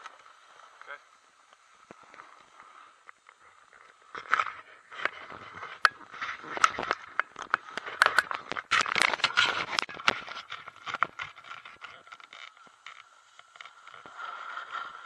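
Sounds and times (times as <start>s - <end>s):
sharp clicks of skis: 0.0s - 15.0s
skis scraping over snow: 0.0s - 15.0s.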